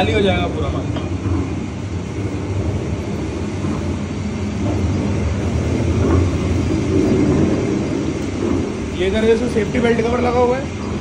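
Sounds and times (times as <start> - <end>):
powder mixer motor hum: 0.0 - 11.0.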